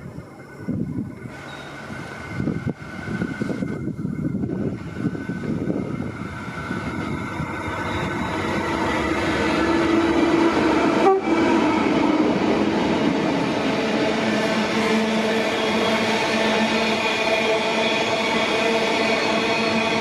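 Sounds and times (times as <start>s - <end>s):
diesel freight train passing: 0.0s - 20.0s.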